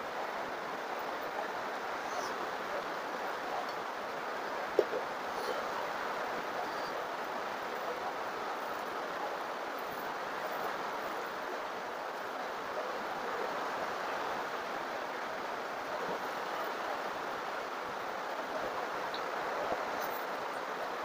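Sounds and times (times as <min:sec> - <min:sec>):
heavy rain on a tin roof: 0:00.0 - 0:21.0.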